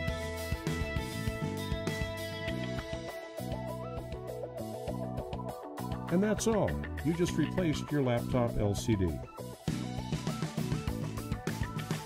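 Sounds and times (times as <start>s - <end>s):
music with guitar and drums: 0.0s - 12.0s.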